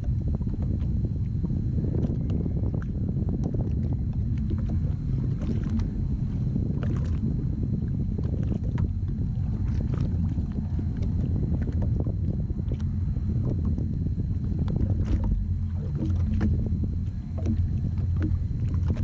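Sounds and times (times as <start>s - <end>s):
jet ski engine rumble: 0.0s - 19.0s
water splashes: 0.0s - 19.0s.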